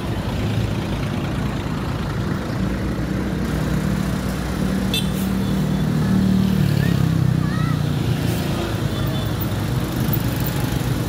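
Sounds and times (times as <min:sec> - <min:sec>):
bus diesel engines passing: 0:00.0 - 0:11.0
road traffic noise: 0:00.0 - 0:11.0.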